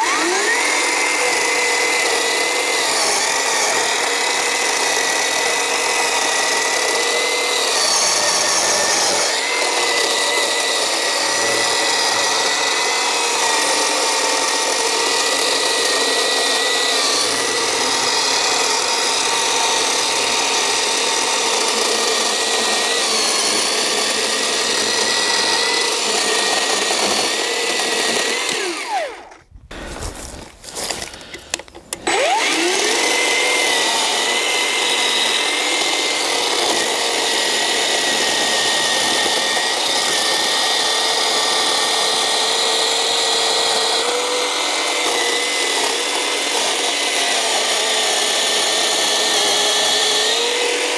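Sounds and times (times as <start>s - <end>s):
electric chainsaw cutting log: 0.0s - 50.9s.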